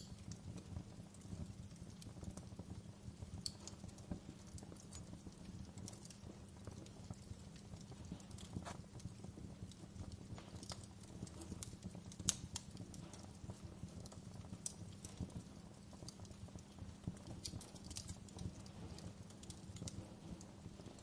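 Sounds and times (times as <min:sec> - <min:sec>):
fire crackling in fireplace: 0:00.0 - 0:21.0.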